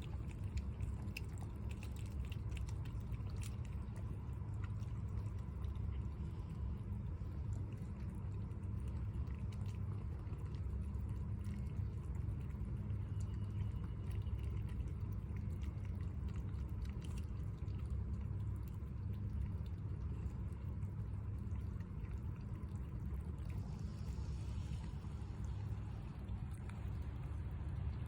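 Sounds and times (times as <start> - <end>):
cats eating and slurping: 0.0 - 28.0
steady low hum: 0.0 - 28.0.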